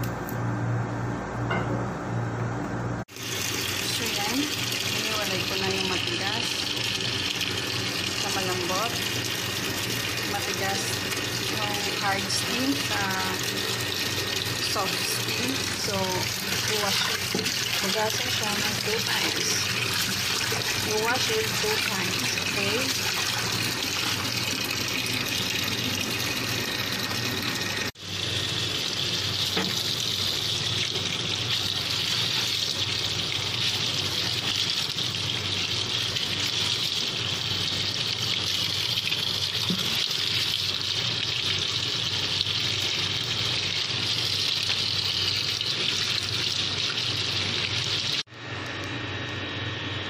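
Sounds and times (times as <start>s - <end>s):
tap water gushing into basin: 3.1s - 48.3s.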